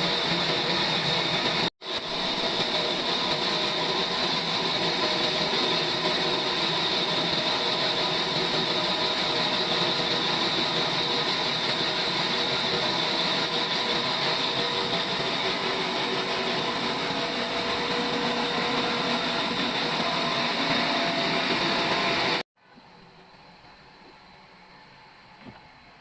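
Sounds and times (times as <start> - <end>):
sawmill trolley machine running: 0.0 - 22.4.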